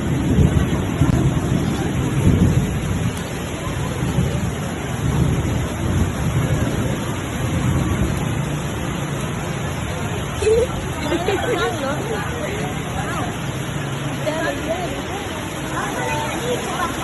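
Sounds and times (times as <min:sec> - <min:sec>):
heavy rain hissing: 0:00.0 - 0:17.0
rolling thunder rumbles: 0:00.0 - 0:17.0.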